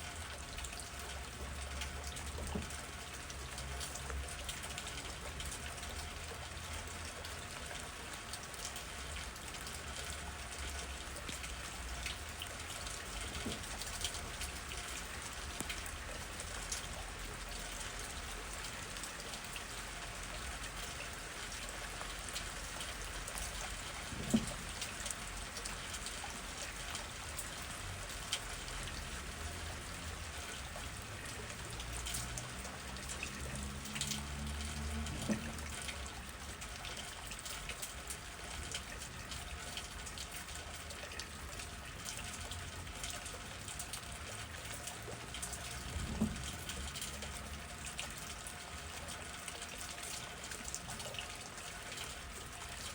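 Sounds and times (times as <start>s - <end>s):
rain falling: 0.0s - 52.9s
raindrops ticking: 0.0s - 52.9s.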